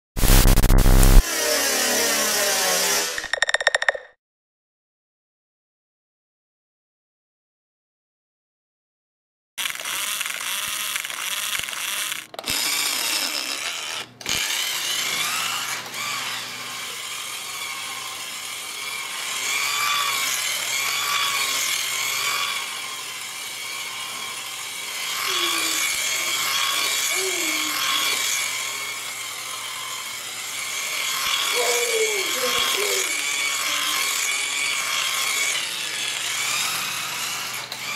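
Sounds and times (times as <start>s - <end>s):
toy car motor whining: 1.1s - 4.0s, 9.6s - 37.9s.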